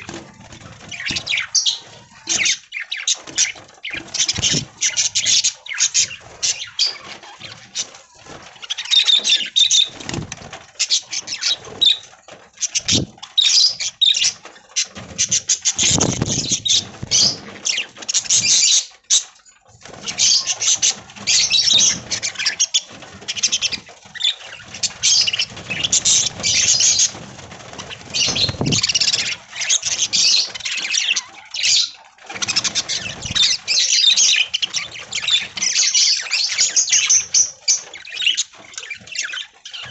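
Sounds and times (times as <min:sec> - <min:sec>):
budgerigars chattering and chirping: 0:00.0 - 0:07.9, 0:08.6 - 0:19.3, 0:20.0 - 0:27.2, 0:27.8 - 0:39.9.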